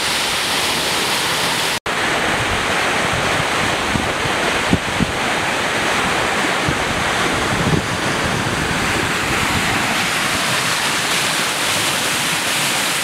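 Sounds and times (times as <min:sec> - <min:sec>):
turbulent floodwater rushing: 0:00.0 - 0:13.0.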